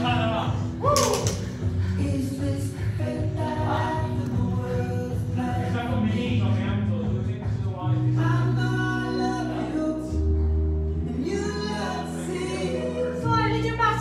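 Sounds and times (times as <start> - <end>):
song with singing: 0.0 - 14.0.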